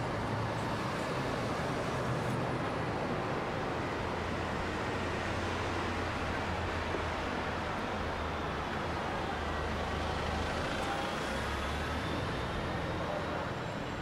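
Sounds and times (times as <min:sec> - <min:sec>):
city road traffic: 0:00.0 - 0:14.0.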